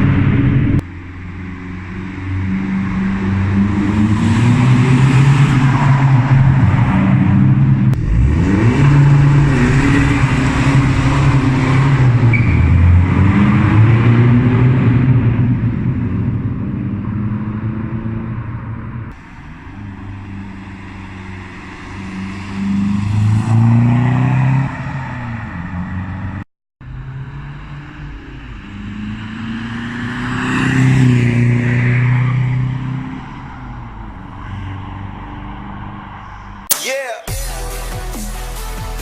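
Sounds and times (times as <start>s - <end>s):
loud diesel engine accelerating: 0.0s - 36.7s.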